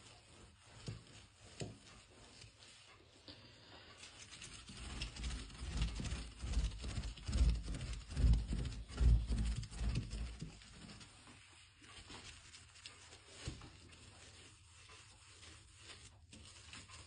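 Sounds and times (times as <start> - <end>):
rubbing strokes with dull thumps: 0.0 - 17.0.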